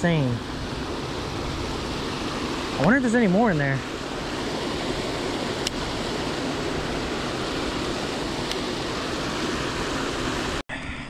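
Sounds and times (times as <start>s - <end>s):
water rushing over weir: 0.0s - 10.6s.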